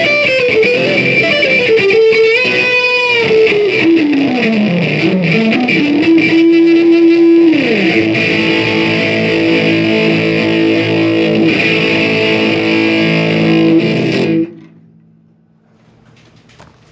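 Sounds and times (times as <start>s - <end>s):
distorted electric guitar: 0.0s - 15.2s.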